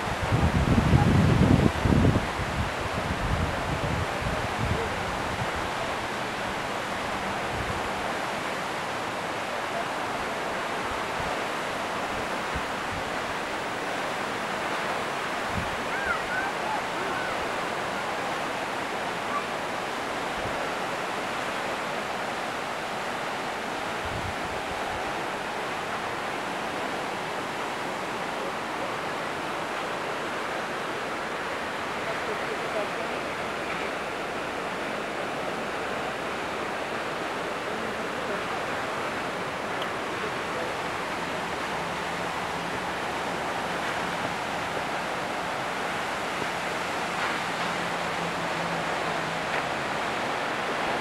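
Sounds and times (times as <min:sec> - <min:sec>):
waterfall rushing into pool: 0:00.0 - 0:51.0.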